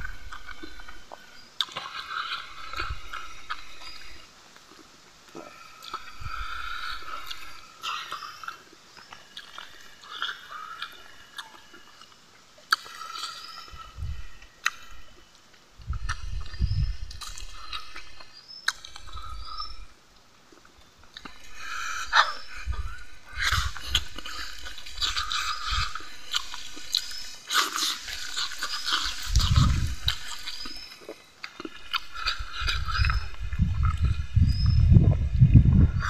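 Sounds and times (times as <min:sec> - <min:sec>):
wet chewing and lip-smacking: 0:00.0 - 0:19.9, 0:20.5 - 0:36.0.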